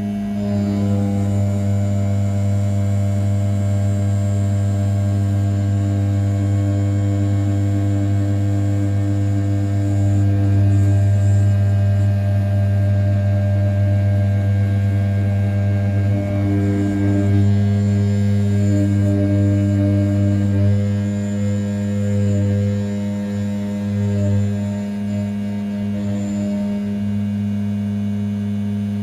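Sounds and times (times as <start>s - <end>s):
milling machine spindle humming: 0.0s - 29.0s.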